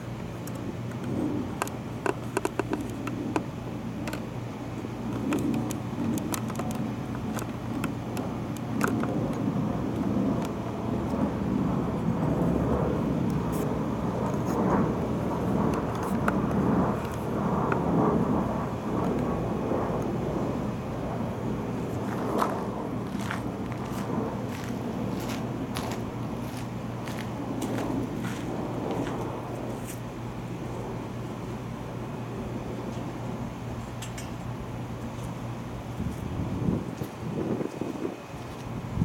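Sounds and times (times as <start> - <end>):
gusty wind on microphone: 0.0 - 33.7, 35.7 - 39.0.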